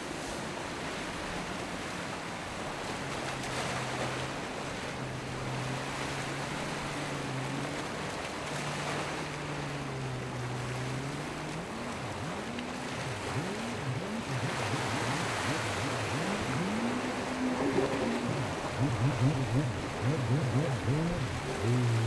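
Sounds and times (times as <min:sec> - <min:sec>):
boat engine drone: 0:00.0 - 0:22.0
water rushing along hull: 0:00.0 - 0:22.0
wind: 0:00.0 - 0:22.0.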